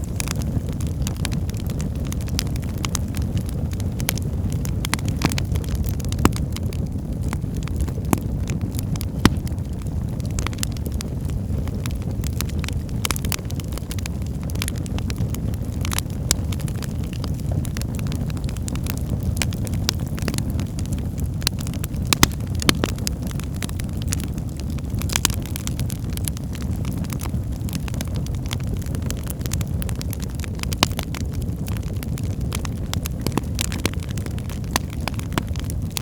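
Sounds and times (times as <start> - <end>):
fire flames rumbling: 0.0 - 36.0
wood fire crackles and pops: 0.0 - 36.0.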